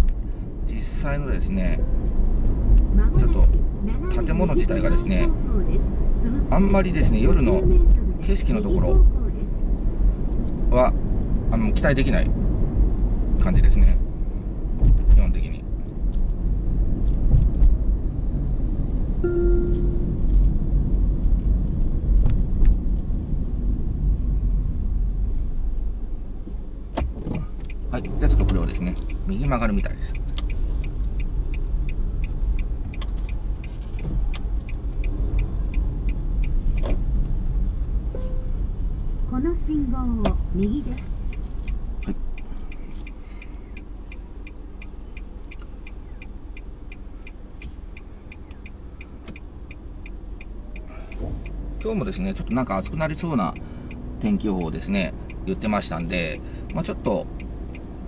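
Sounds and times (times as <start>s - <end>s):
turn signal ticking: 0.0s - 58.0s
tyre and engine rumble: 0.0s - 58.0s.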